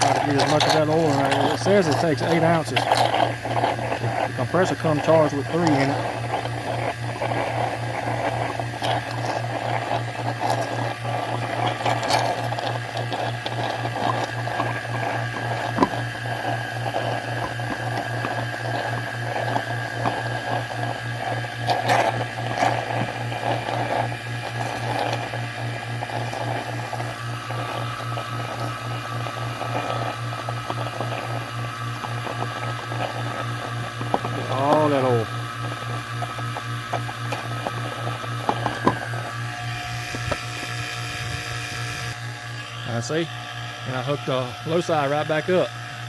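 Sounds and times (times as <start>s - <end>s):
oil crackling and gurgling: 0.0s - 46.0s
vacuum pump humming: 0.0s - 46.0s.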